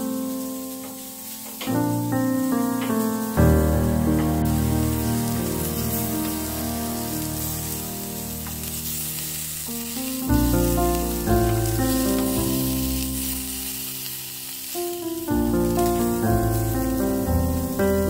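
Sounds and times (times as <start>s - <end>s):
background piano music: 0.0s - 18.0s
meat sizzling in a grill pan: 0.0s - 18.0s.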